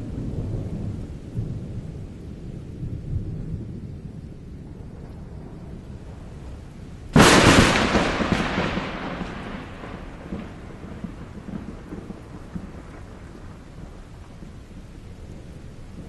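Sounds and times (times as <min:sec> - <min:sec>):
thunder crack and rumble: 0:00.0 - 0:16.0.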